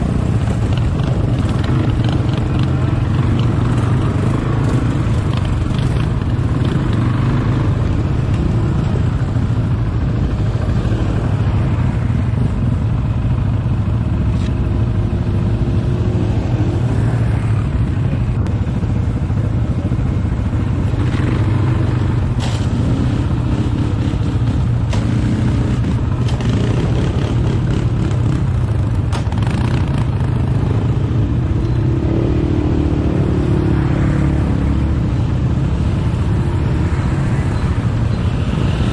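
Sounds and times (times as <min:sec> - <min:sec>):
quad bike engine running: 0:00.0 - 0:16.8, 0:17.8 - 0:35.0.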